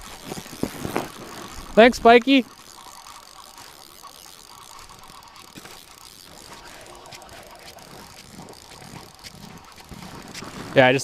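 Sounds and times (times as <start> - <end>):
fishing reel whirring: 0.0 - 11.0.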